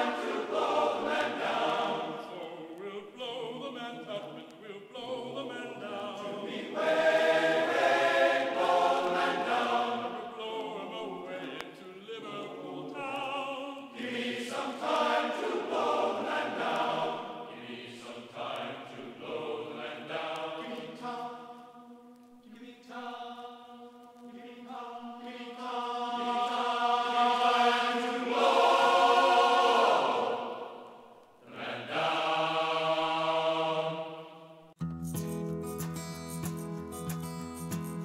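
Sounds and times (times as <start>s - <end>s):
choir singing held chords: 0.0s - 34.8s.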